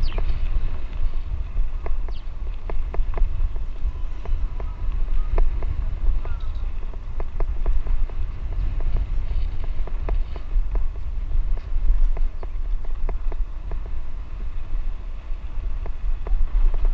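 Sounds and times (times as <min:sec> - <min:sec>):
bicycle rattling over dirt road: 0:00.0 - 0:16.9
wind rumble on microphone: 0:00.0 - 0:16.9.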